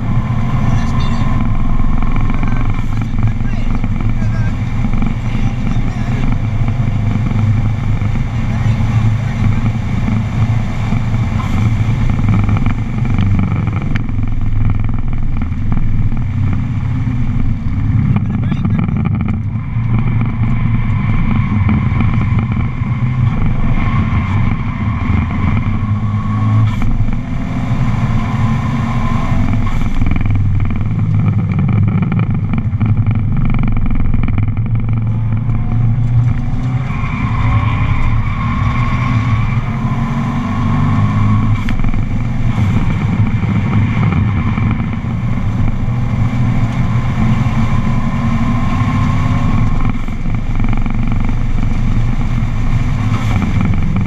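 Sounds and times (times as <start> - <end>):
car engine at speed: 0.0 - 54.0.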